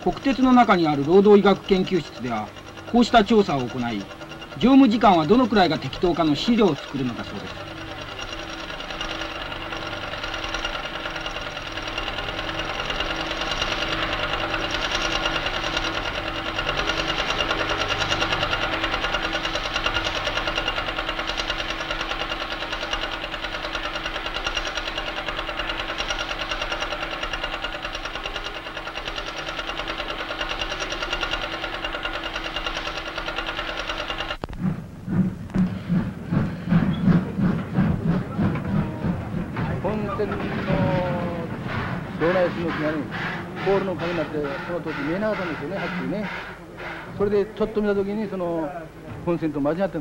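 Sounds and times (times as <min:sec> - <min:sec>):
chart recorder clatter and buzz: 0:00.0 - 0:50.0
steam locomotive exhaust beats: 0:00.0 - 0:50.0.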